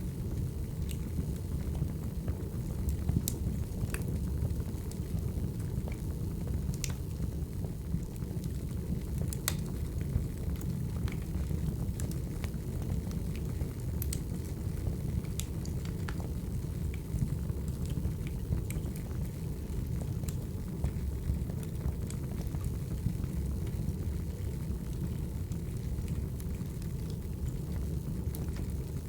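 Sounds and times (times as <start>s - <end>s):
burning logs crackling and popping: 0.1s - 29.0s.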